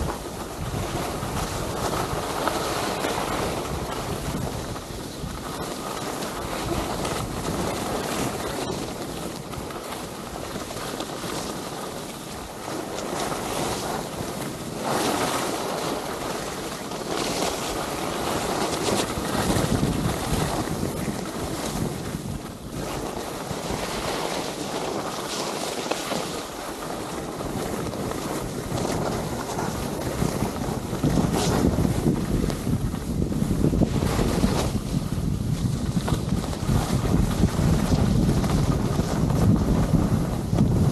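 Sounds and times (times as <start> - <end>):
sliding scrape on hard snow: 0.0 - 40.9
wind on microphone: 0.0 - 40.9.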